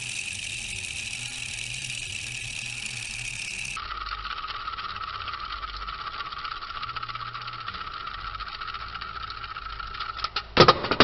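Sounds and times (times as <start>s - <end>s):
fidget spinner whirring: 0.0s - 10.6s.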